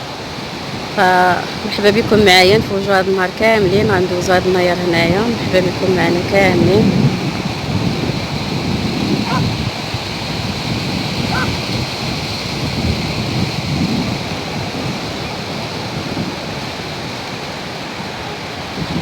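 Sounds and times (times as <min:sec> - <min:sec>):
waves breaking on beach: 0:00.0 - 0:19.0
wind on microphone: 0:00.0 - 0:19.0.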